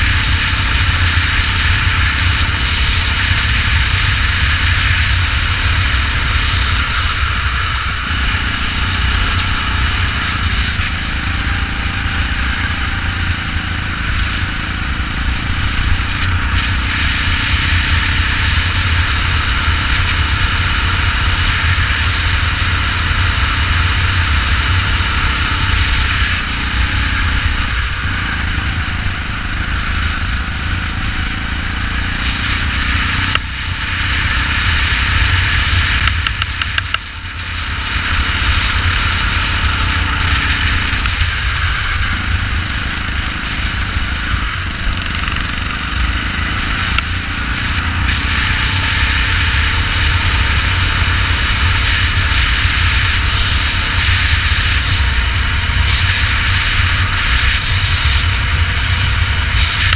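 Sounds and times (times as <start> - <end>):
go-kart engine running: 0.0 - 59.9.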